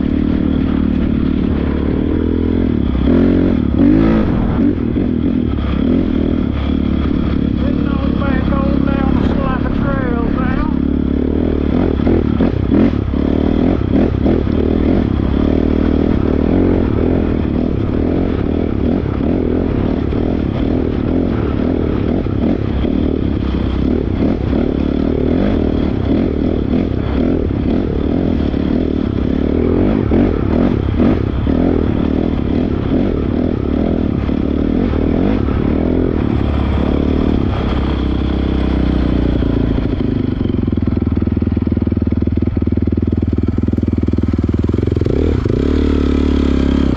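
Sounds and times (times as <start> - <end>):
dirt bike engine running: 0.0 - 46.9.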